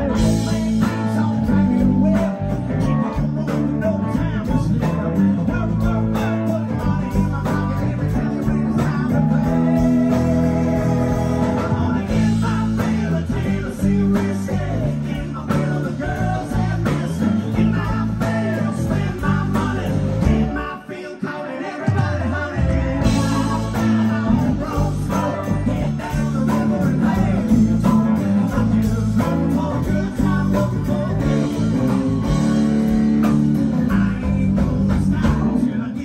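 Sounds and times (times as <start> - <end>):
live band playing: 0.0 - 36.0.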